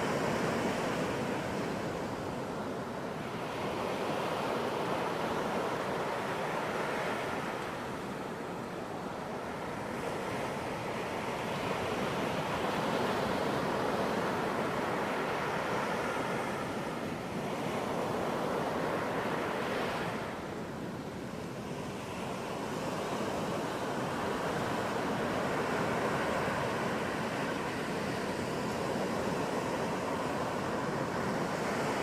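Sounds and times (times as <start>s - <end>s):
ocean waves breaking on beach: 0.0s - 32.0s.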